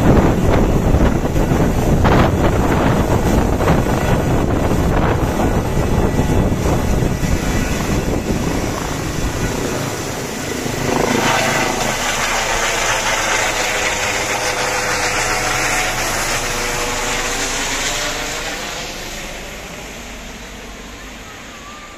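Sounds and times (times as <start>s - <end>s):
helicopter turbine whine and rotors: 0.0s - 21.9s.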